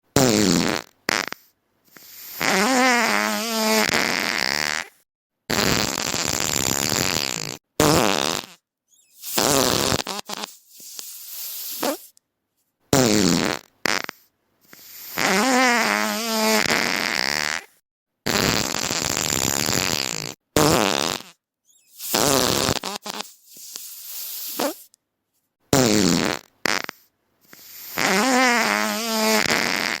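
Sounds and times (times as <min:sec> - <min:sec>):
fart sound effects: 0:00.2 - 0:01.5, 0:02.4 - 0:12.1, 0:12.9 - 0:14.3, 0:15.2 - 0:17.7, 0:18.3 - 0:24.9, 0:25.7 - 0:27.1, 0:27.8 - 0:30.0.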